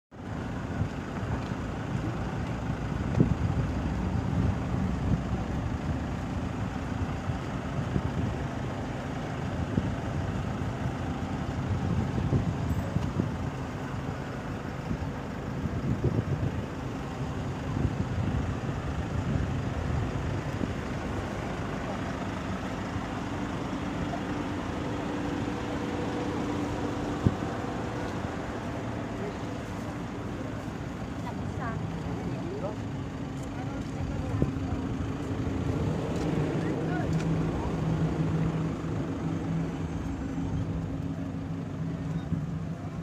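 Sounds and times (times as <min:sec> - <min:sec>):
steady low rumble: 0:00.2 - 0:43.0.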